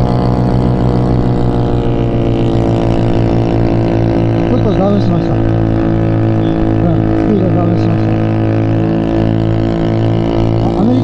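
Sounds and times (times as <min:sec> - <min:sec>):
motorcycle engine droning: 0:00.0 - 0:11.0.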